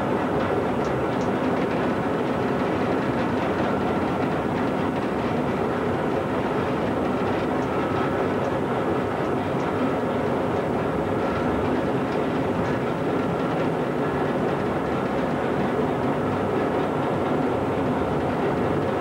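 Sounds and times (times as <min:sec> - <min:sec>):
locomotive engine running: 0:00.0 - 0:19.0
rail clicks: 0:00.2 - 0:19.0.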